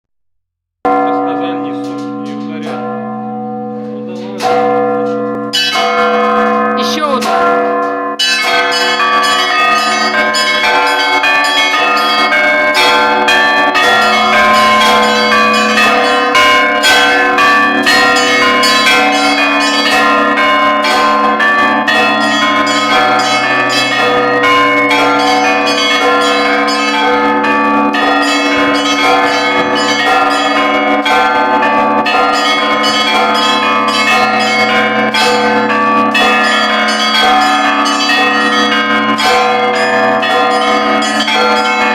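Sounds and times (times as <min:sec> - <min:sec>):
church bells pealing: 0:00.9 - 0:41.9.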